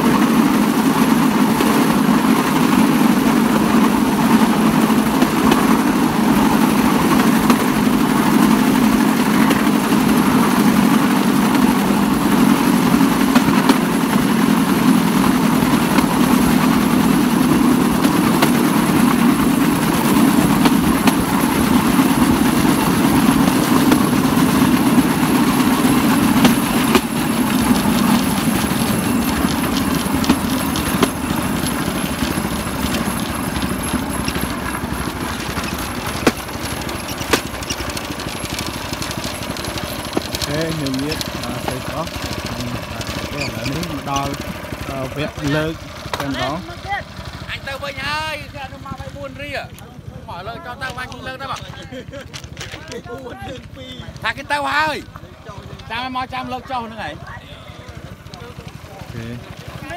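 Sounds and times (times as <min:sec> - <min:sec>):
small petrol engine running: 0:00.0 - 0:59.9
wheels running on rails: 0:00.0 - 0:59.9.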